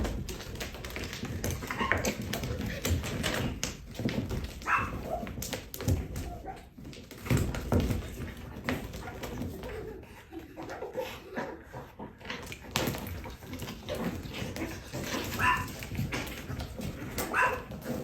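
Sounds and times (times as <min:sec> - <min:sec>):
scuffling knocks and thumps: 0:00.0 - 0:10.2, 0:12.4 - 0:18.0.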